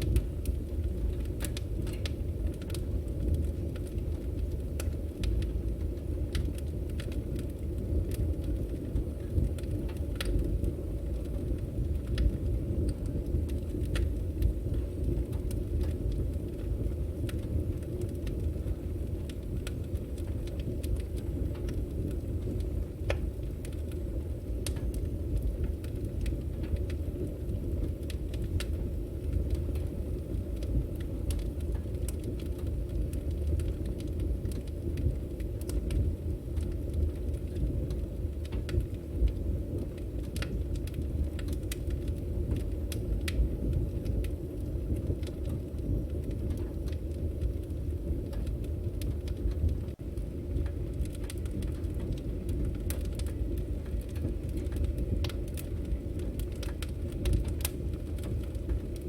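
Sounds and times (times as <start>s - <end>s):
flames rushing: 0.0s - 59.0s
wood crackling and popping: 0.0s - 59.0s.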